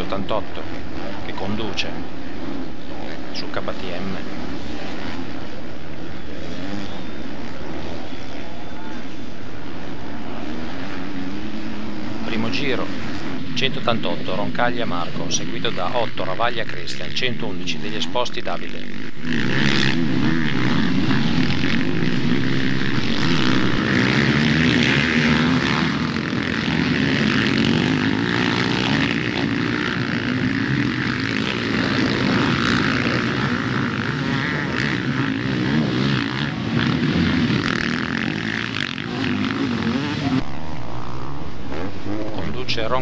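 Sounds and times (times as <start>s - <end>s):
motocross bikes revving: 0.0s - 43.0s.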